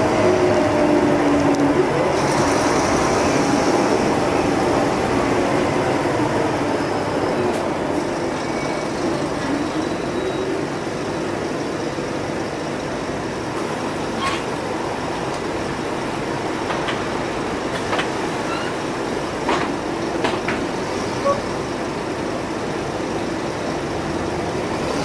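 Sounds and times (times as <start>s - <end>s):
bus engine drone: 0.0s - 25.0s
road noise: 0.0s - 25.0s.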